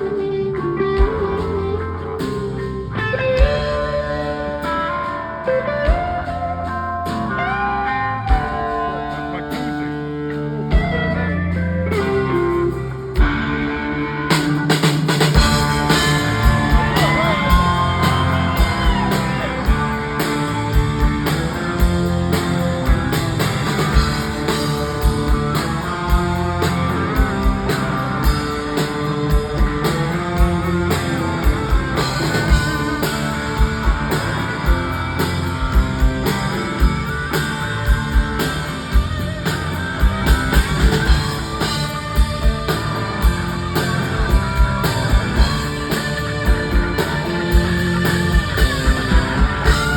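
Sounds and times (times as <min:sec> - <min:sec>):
bass: 0:00.0 - 0:49.9
drums: 0:00.0 - 0:49.9
electric guitar lead: 0:00.0 - 0:49.9.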